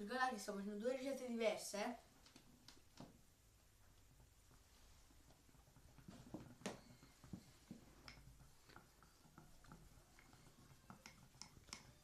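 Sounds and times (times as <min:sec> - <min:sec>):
slime being stirred in bowls: 0:00.0 - 0:12.0.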